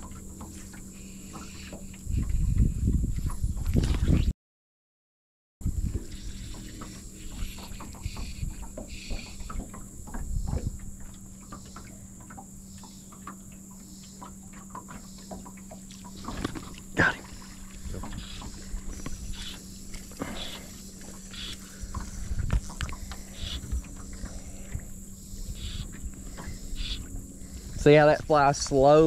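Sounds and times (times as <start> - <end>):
faint steady hum: 0.0 - 3.7, 5.6 - 29.0.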